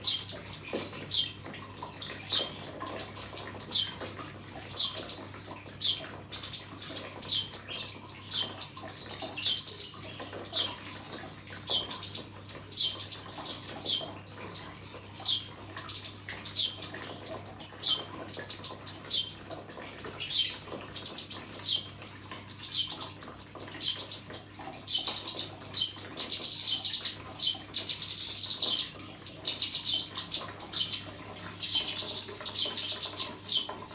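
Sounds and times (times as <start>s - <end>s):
bird chirping song: 0.0s - 33.9s.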